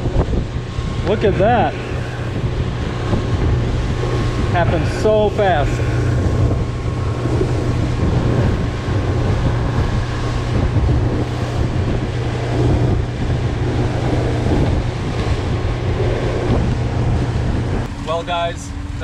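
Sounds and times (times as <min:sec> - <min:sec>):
outboard motor drone: 0:00.0 - 0:19.0
water rushing past hull: 0:00.0 - 0:19.0
wind buffeting microphone: 0:00.0 - 0:19.0.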